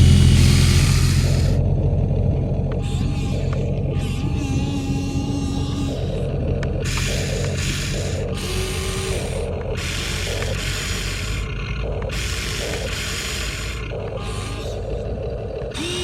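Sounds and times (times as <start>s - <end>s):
toy excavator motors whirring: 0.0s - 1.7s, 2.3s - 16.0s
steady low hum: 0.0s - 16.0s.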